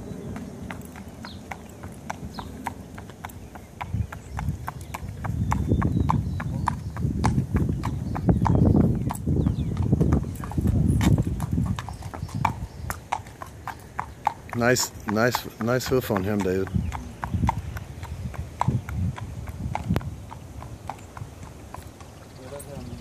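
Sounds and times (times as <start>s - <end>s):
hooves clip-clopping on pavement: 0.0s - 23.0s.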